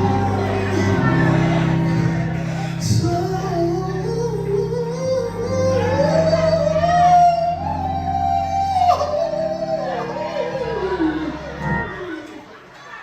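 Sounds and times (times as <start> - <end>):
held chords: 0.0 - 12.5.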